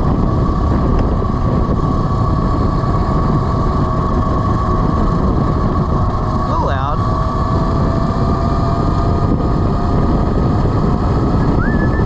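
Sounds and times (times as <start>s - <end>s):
electric motor whine: 0.0s - 12.0s
wind rushing over microphone: 0.0s - 12.0s.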